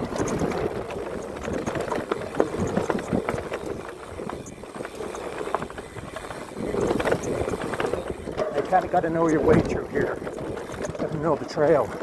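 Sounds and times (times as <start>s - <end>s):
bike rattling over roots: 0.0s - 12.0s
bike tyres rolling on dirt: 0.0s - 12.0s.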